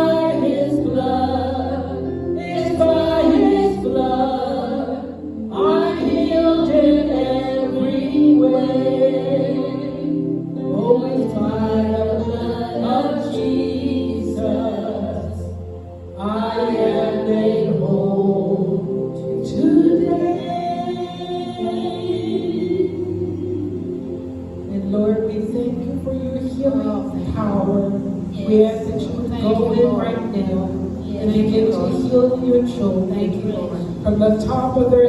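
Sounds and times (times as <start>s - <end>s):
gospel singing voices: 0.0s - 35.0s.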